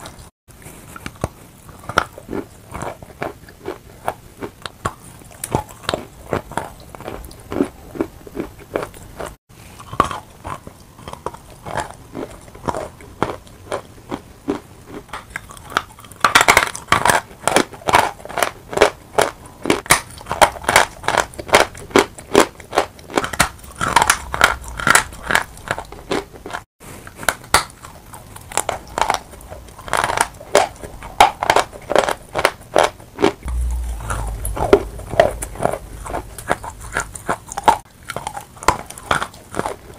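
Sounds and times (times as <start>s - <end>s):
chalk crunching while chewed: 0.0s - 33.5s, 36.0s - 39.9s.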